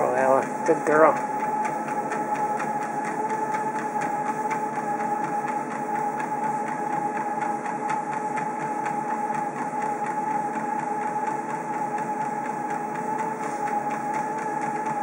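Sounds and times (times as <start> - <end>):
treadmill motor whine: 0.0 - 15.0.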